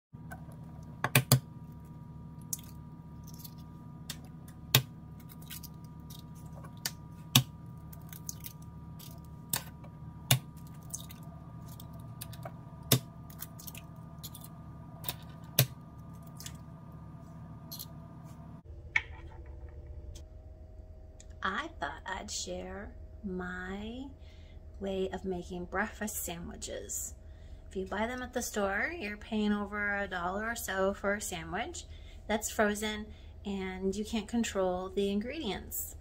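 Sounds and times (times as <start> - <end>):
low hum: 0.2 - 36.0.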